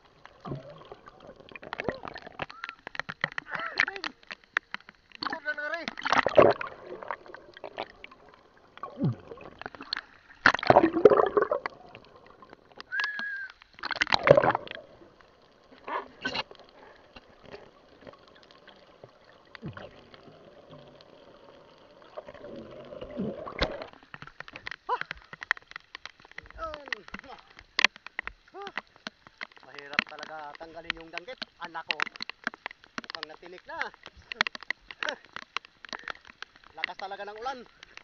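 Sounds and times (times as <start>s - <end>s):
water sloshing underwater: 0.0s - 38.0s.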